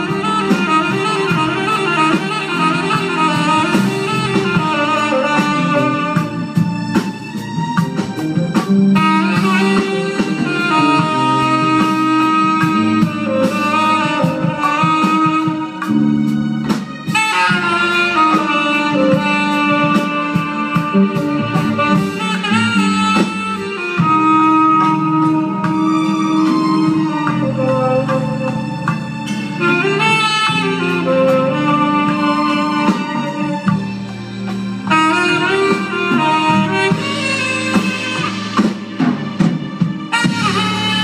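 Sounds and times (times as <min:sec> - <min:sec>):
bass: 0:00.0 - 0:41.0
steady drum beat: 0:00.0 - 0:41.0
tenor saxophone melody: 0:00.0 - 0:41.0.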